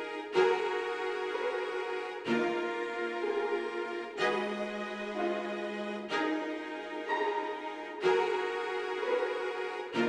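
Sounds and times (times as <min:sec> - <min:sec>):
orchestral string chords: 0:00.0 - 0:10.0.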